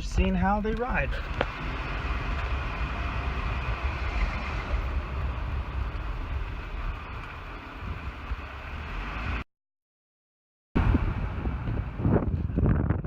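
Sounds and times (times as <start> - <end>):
car engine rumble: 0.0 - 9.4, 10.8 - 13.0.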